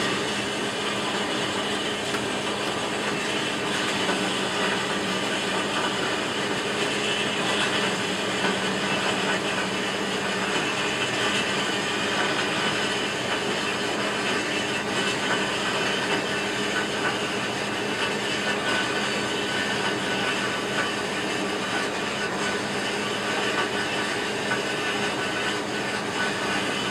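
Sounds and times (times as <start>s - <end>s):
furnace burner rushing: 0.0s - 26.9s.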